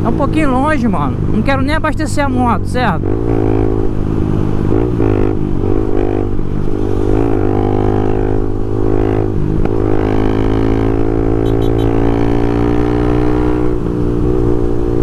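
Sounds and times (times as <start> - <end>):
motorcycle engine running: 1.7 - 15.0.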